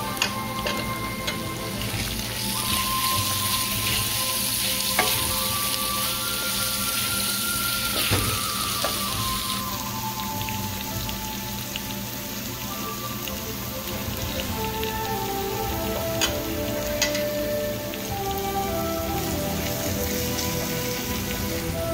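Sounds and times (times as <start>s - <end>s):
masala sizzling in hot oil: 0.0s - 21.9s.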